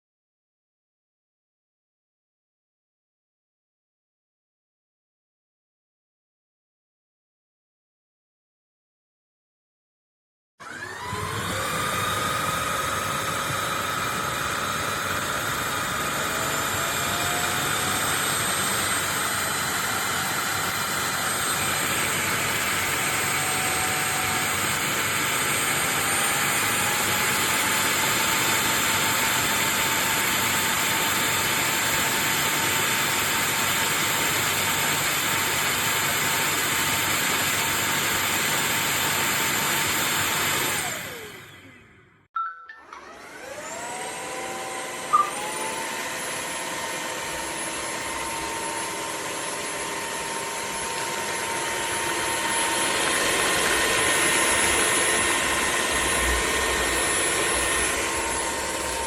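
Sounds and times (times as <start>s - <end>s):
cordless vacuum whining: 10.6s - 42.0s, 42.8s - 59.0s.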